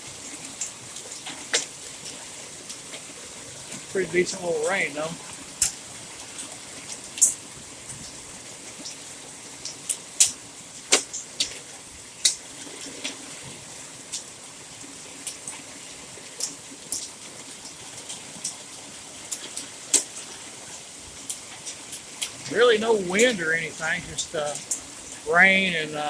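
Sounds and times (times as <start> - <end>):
hailstones ticking on hard surfaces: 0.0 - 26.0
steady rain: 0.0 - 26.0.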